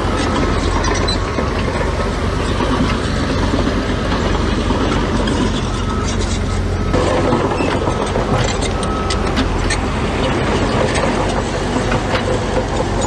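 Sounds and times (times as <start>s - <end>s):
heavy diesel machinery running: 0.0s - 13.0s
metallic clanks and rattles: 0.2s - 13.0s.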